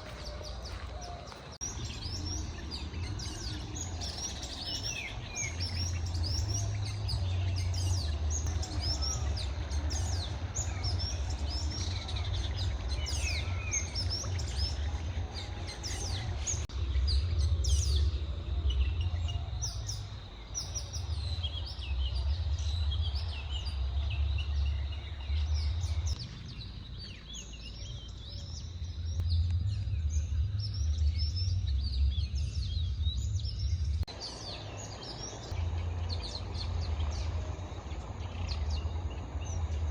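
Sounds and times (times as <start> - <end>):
birds chirping and singing: 0.0 - 39.9
steady low rumble: 0.0 - 39.9.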